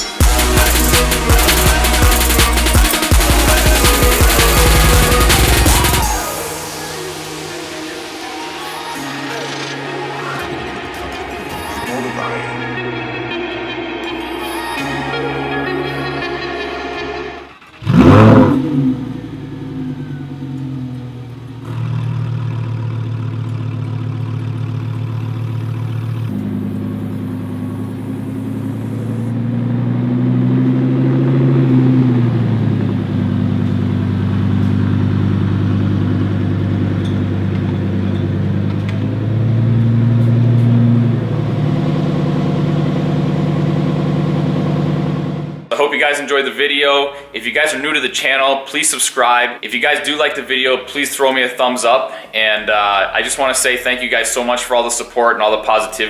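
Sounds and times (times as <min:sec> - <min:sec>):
car engine starting and idling: 0:00.0 - 0:45.7, 0:50.2 - 0:56.0.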